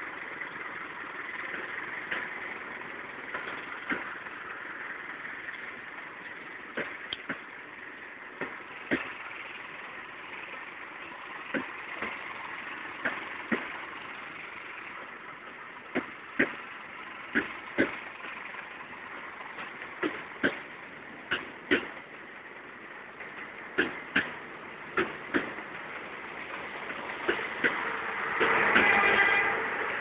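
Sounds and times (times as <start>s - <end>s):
train running noise: 0.0s - 30.0s
train wheels clacking over rail joints: 0.0s - 30.0s.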